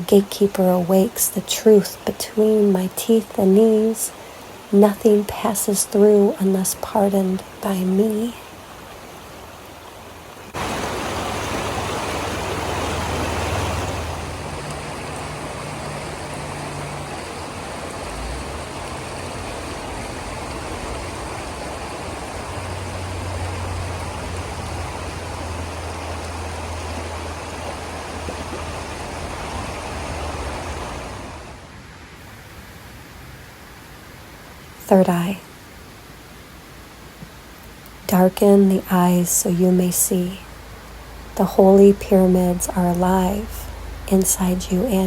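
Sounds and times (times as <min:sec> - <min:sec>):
water rushing: 0:00.0 - 0:45.0.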